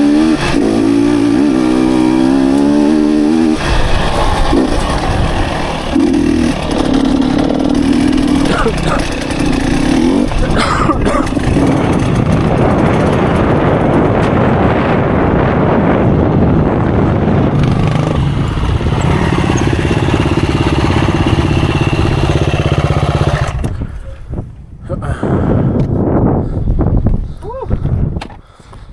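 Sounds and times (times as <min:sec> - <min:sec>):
dirt bike engine revving: 0:00.0 - 0:16.0, 0:16.7 - 0:23.9.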